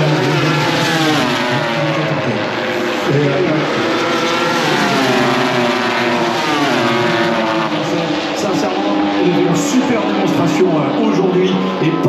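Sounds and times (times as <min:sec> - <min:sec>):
racing motorcycle engines: 0:00.0 - 0:12.0.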